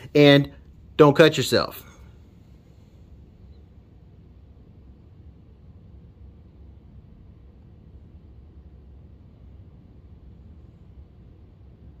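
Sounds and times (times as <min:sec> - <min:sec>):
background hiss: 0:00.0 - 0:12.0
faint low rumble: 0:00.0 - 0:12.0.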